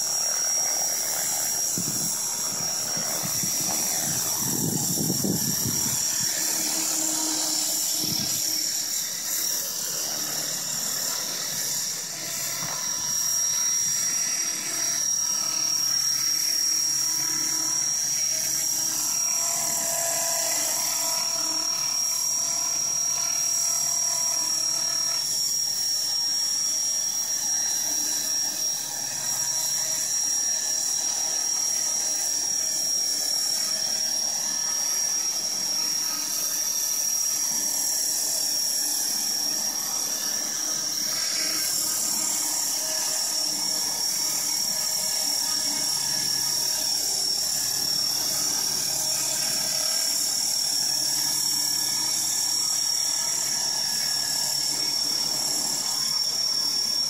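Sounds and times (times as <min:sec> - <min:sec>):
model helicopter rotor whine: 0:00.0 - 0:57.0.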